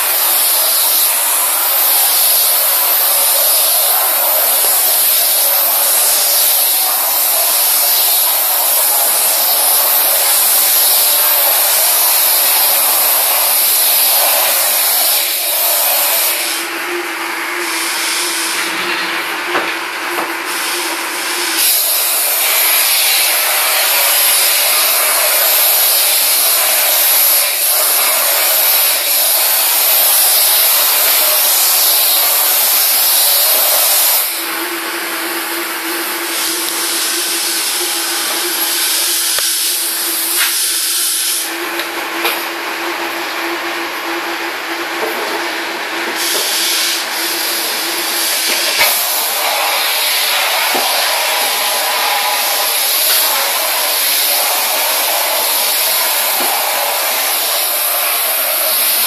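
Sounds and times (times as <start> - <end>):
steam cleaner hissing: 0.0 - 43.9, 44.8 - 59.0.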